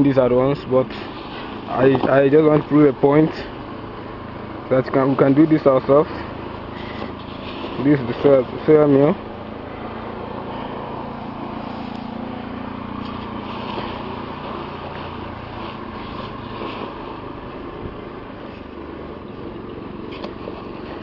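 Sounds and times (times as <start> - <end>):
engine drone with low hum: 0.0 - 21.0.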